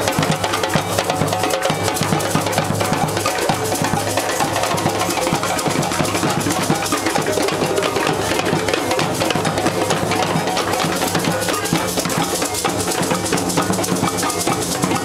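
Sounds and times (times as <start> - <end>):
hand drums playing: 0.0 - 15.0.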